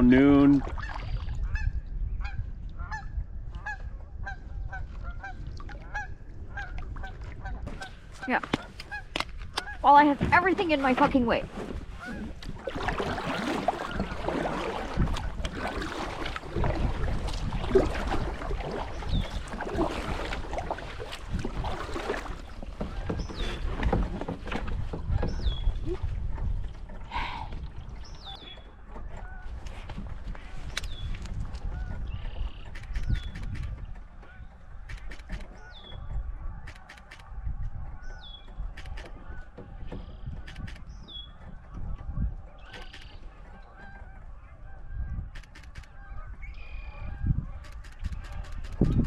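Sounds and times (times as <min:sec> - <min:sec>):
paddle strokes and splashes: 0:00.0 - 0:49.0
water and wind rumble: 0:00.0 - 0:49.0.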